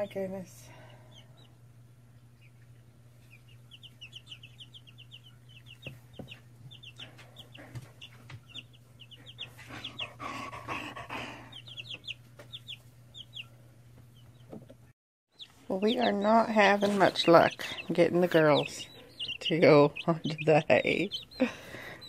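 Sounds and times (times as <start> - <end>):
chicks peeping: 0.0 - 22.0
steady low hum: 0.0 - 22.0.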